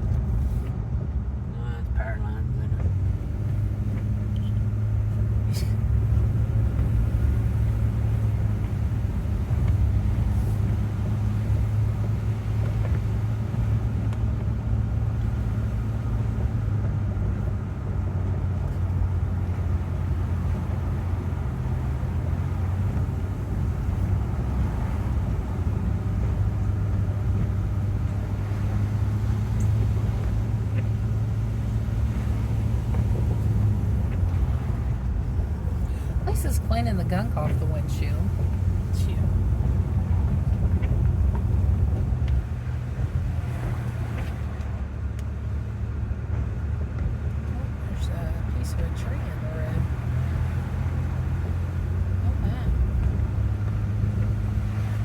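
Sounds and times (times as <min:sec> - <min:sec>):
car road noise inside cabin: 0:00.0 - 0:55.0.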